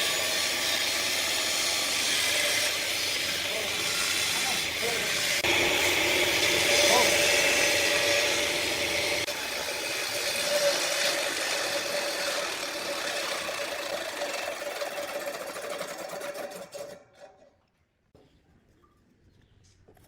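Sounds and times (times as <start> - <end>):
table saw whining: 0.0 - 17.3.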